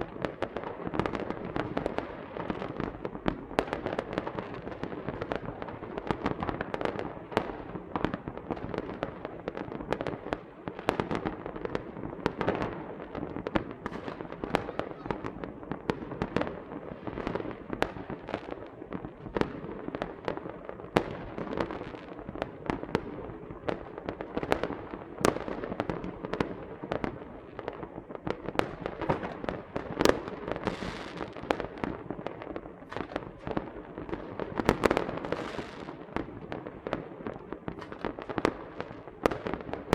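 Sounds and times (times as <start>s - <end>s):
continuous crackle: 0.0s - 39.9s
firecrackers popping and banging: 0.0s - 39.9s.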